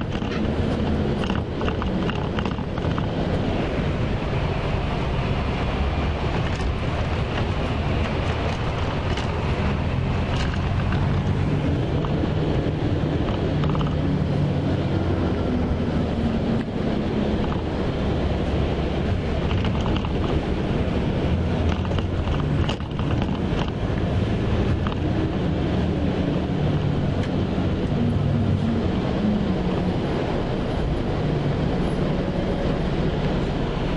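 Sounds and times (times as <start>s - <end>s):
diesel engine drone: 0.0s - 33.9s
road and wind noise: 0.0s - 33.9s.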